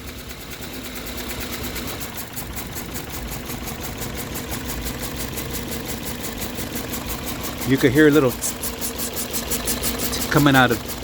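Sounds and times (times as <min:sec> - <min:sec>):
car engine idling roughly: 0:00.0 - 0:11.0.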